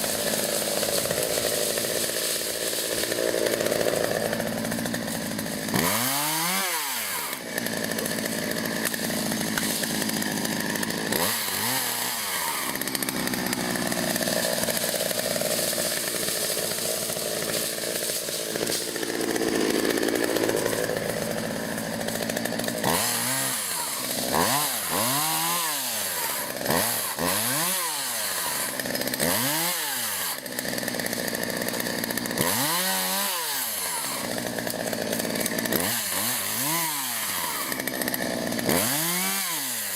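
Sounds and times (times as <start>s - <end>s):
chainsaw cutting tree limbs: 0.0s - 39.9s.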